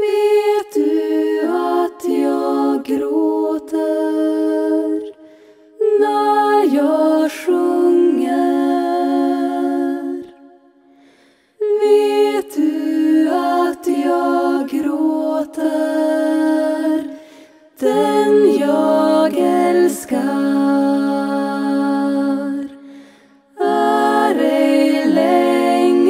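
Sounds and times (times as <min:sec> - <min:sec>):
female vocal group singing a cappella: 0:00.0 - 0:26.0.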